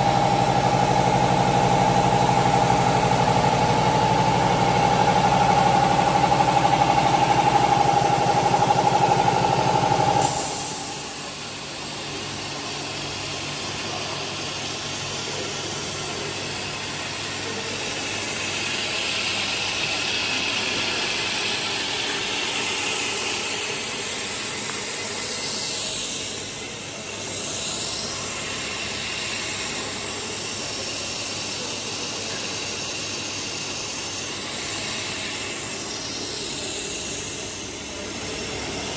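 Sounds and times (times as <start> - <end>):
machinery hiss: 0.0 - 38.9
motor humming: 0.0 - 38.9.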